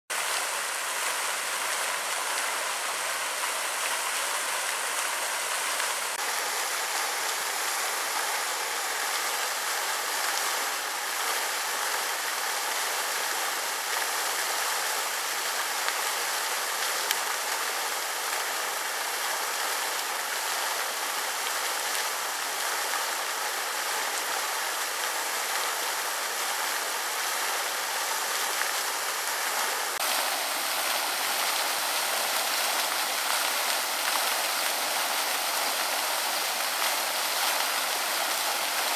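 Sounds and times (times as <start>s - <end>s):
water splashing: 0.1s - 38.9s.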